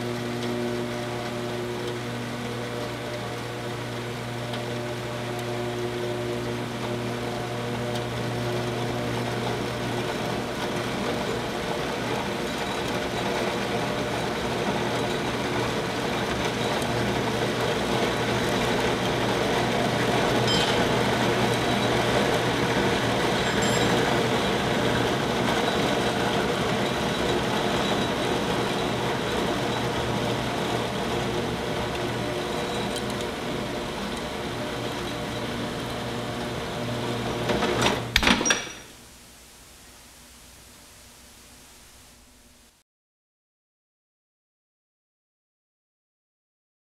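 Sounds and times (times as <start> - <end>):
bandsaw motor humming: 0.0 - 38.2.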